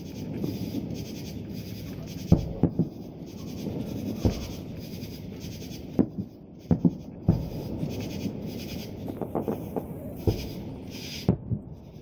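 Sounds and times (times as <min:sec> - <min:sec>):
background hiss: 0:00.0 - 0:12.0
distant fireworks booming: 0:00.0 - 0:12.0.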